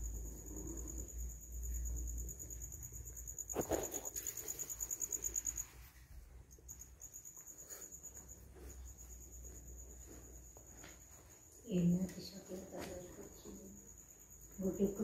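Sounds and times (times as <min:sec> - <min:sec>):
insect chirping trill: 0:00.0 - 0:15.0.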